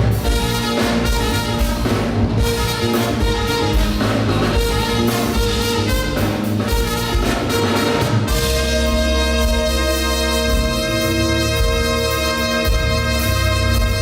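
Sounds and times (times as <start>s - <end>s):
funk band playing: 0.0s - 14.0s
saxophone and trumpet horn lines: 0.0s - 14.0s.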